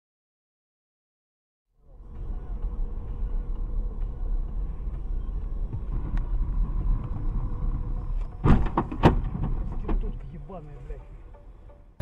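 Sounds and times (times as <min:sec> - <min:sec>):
car engine and road rumble: 0:01.8 - 0:12.0.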